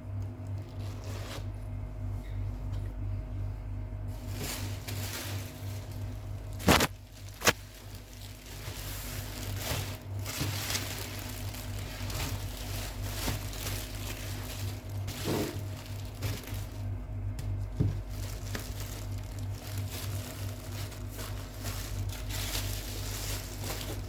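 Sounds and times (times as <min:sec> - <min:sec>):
steady low hum: 0:00.0 - 0:24.0
soft handling noises: 0:04.1 - 0:24.0.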